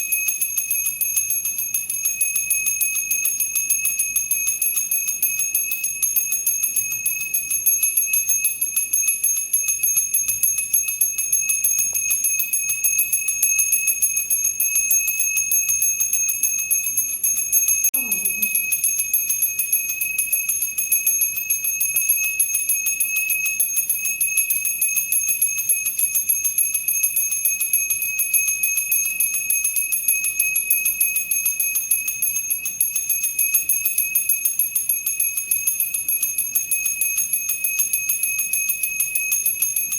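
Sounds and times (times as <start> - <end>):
temple bell rung rapidly: 0.0 - 38.9.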